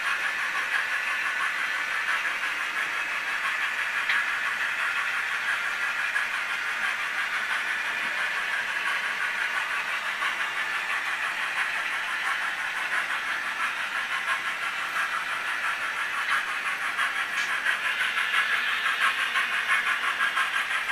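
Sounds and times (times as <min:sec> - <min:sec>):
model train motors whirring: 0:00.0 - 0:20.9
wheels clicking on track: 0:00.0 - 0:20.9.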